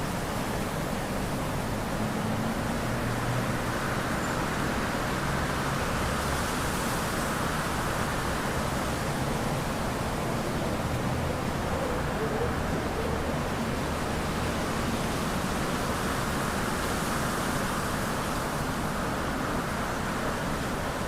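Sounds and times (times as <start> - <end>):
wind through bamboo leaves: 0.0 - 21.0.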